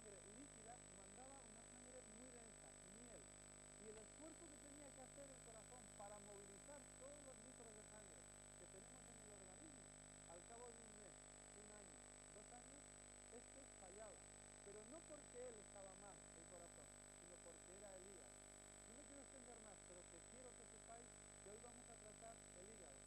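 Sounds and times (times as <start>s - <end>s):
steady high-pitched whine: 0.0s - 23.0s
tape hiss: 0.0s - 23.0s.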